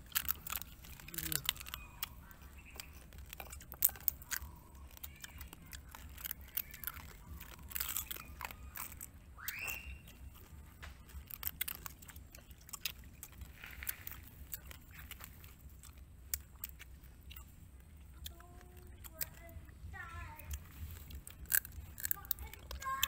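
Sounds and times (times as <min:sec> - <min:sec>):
crab shell cracking: 0:00.0 - 0:19.7, 0:20.4 - 0:23.0
chewing crab: 0:00.0 - 0:23.0.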